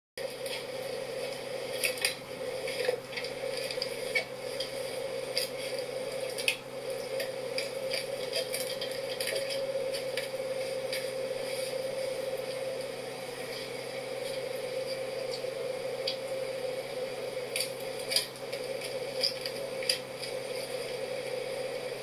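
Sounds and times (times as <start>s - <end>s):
steady hum: 0.2s - 22.0s.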